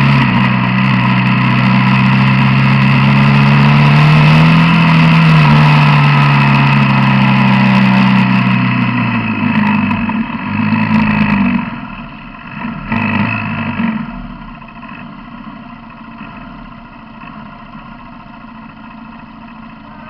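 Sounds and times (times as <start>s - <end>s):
quad bike engine revving and idling: 0.0s - 20.0s.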